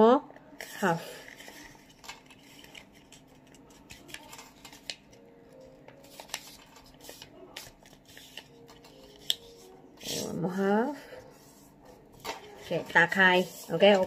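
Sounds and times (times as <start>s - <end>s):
paper crackling: 0.5s - 10.2s, 11.7s - 14.0s.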